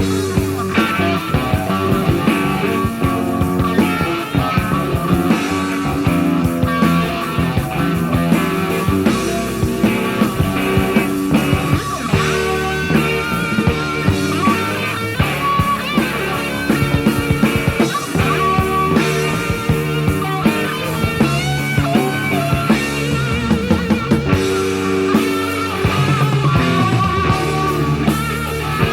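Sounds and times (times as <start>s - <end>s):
bass guitar: 0.0s - 28.9s
electric guitar lead: 0.0s - 28.9s
steady drums: 0.0s - 28.9s.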